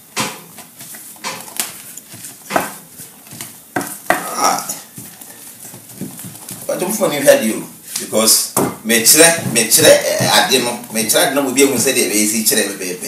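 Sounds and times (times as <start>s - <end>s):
masher knocking and scraping bowl: 0.1s - 7.0s, 8.5s - 12.2s.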